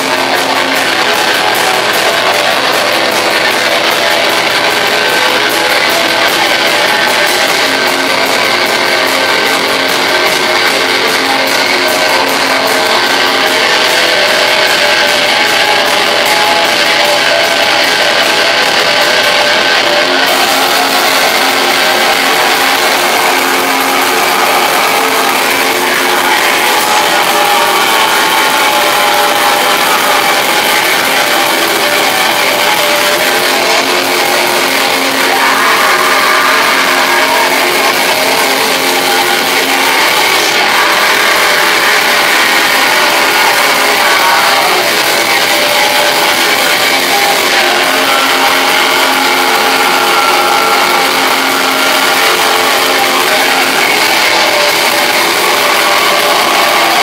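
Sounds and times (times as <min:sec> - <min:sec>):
distorted electric guitars: 0:00.0 - 0:57.0.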